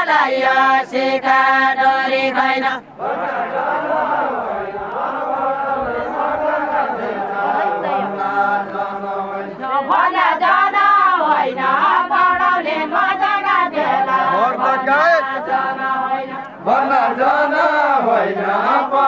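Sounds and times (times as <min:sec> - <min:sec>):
group singing unaccompanied: 0:00.0 - 0:19.0.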